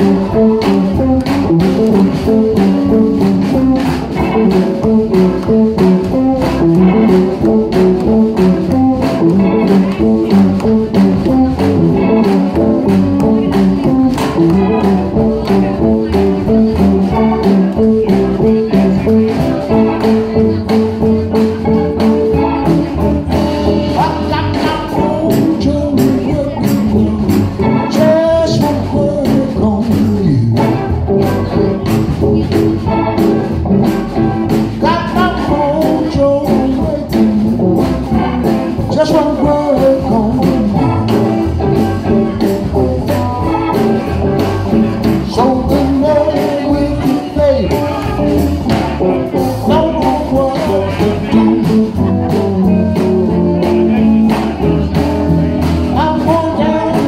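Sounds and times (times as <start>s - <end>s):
drums: 0.0s - 57.0s
electric guitars: 0.0s - 57.0s
man singing: 0.0s - 57.0s.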